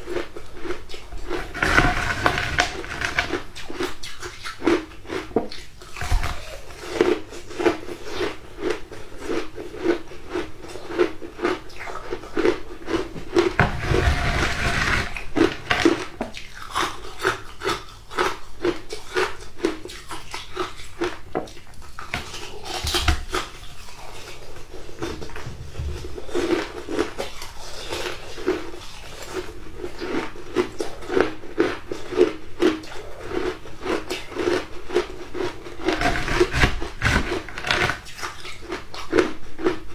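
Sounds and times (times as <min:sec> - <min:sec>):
shaved ice crunching in mouth: 0:00.1 - 0:21.1, 0:26.3 - 0:39.8.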